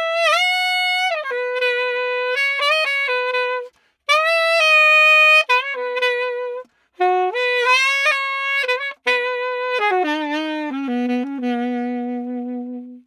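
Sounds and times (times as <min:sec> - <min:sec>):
solo saxophone melody: 0:00.0 - 0:13.0.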